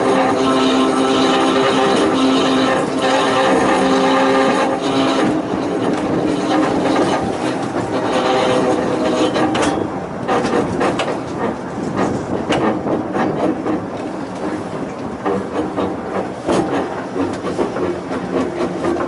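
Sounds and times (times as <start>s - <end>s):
electric railway car whine: 0.0s - 19.0s
wheels clicking over rail joints: 0.0s - 19.0s
wheels rumbling on track: 0.0s - 19.0s.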